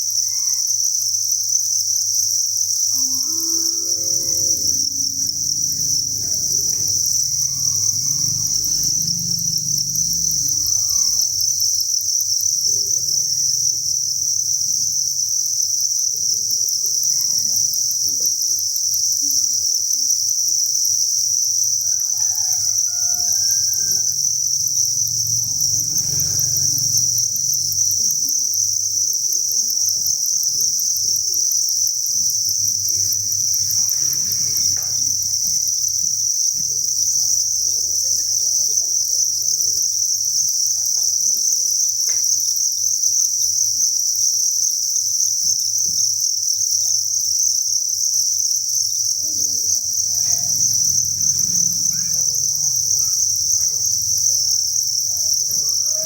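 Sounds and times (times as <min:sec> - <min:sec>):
crickets chirping in chorus: 0:00.0 - 0:56.0.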